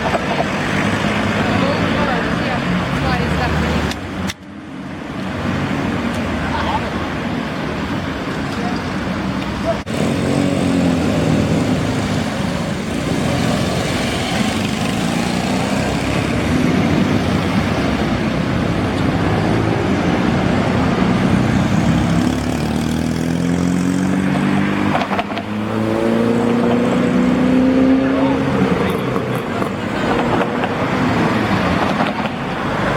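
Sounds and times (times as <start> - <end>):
car engines running: 0.0 - 32.9.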